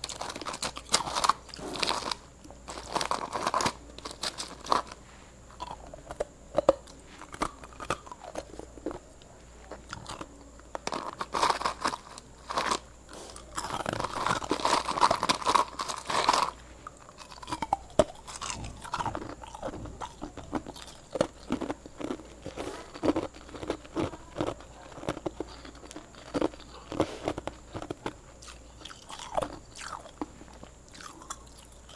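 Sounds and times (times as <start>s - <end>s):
ice being chewed: 0.0s - 31.9s.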